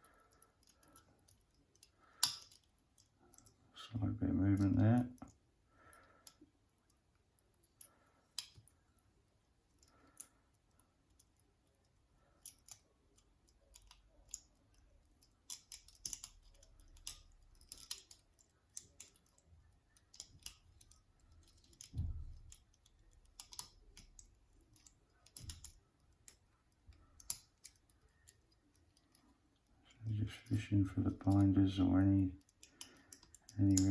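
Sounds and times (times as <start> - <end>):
lock picks clicking and scraping: 0.0 - 33.9.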